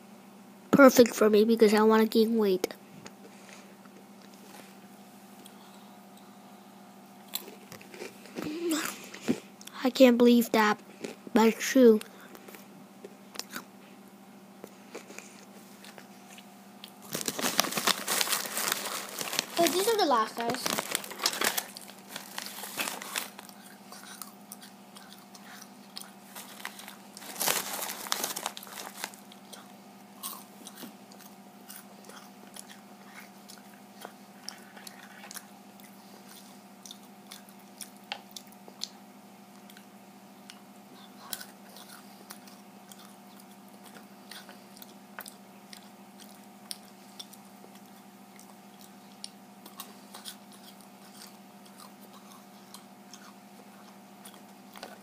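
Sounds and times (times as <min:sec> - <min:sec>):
faint steady hum: 0:00.0 - 0:55.0
child chewing and crunching snack: 0:07.2 - 0:09.8, 0:10.6 - 0:13.8, 0:14.6 - 0:55.0.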